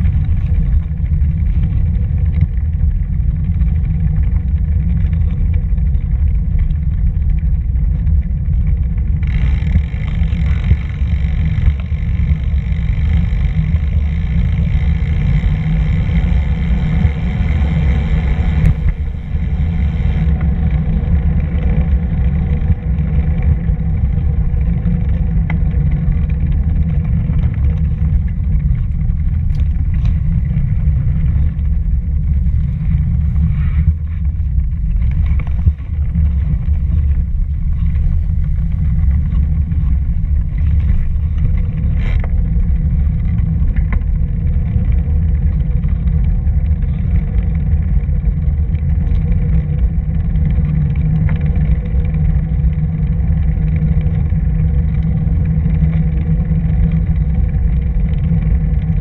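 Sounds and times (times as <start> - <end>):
road vibration rumble: 0.0 - 59.0
wind buffeting microphone: 0.0 - 59.0.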